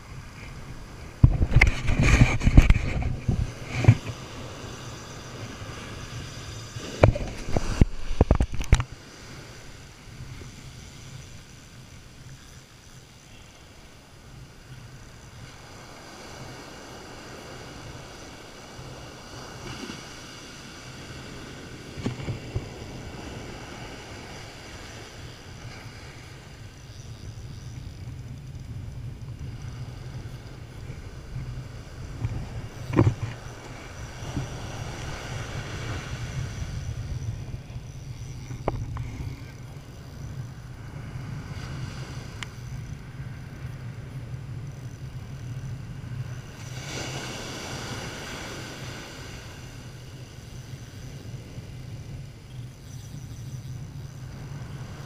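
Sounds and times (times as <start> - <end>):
surf washing up beach: 0.0 - 55.0
wind rumble on microphone: 0.0 - 55.0.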